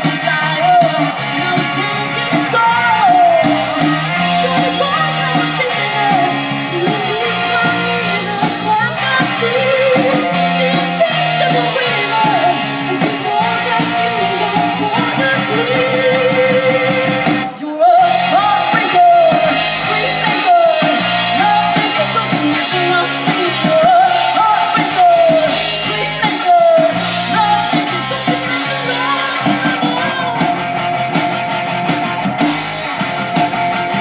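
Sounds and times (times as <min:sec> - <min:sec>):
person singing: 0:00.0 - 0:30.8
rock band with guitar: 0:00.0 - 0:34.0.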